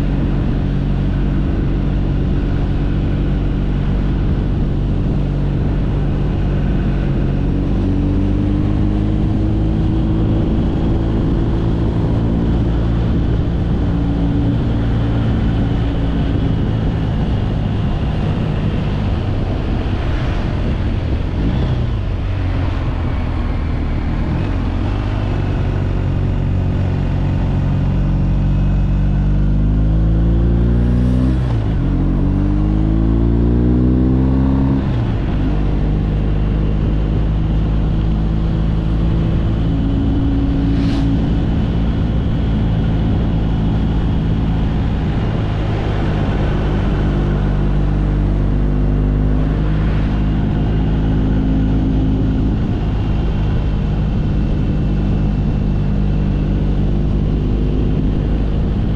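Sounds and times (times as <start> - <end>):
motorcycle engine accelerating: 0.0 - 58.9
steady rushing noise: 0.0 - 58.9.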